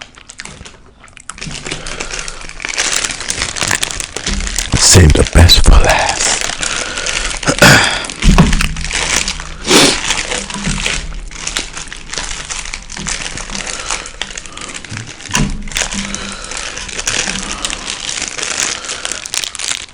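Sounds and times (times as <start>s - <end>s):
close chewing food: 0.0s - 19.9s.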